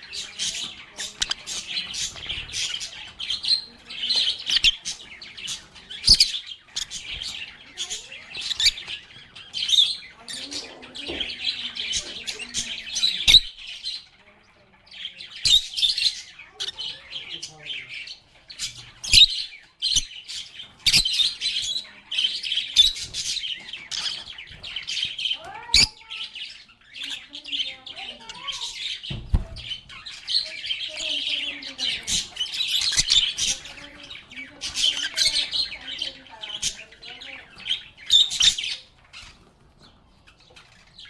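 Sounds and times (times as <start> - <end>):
lovebirds chattering and chirping: 0.0 - 41.0.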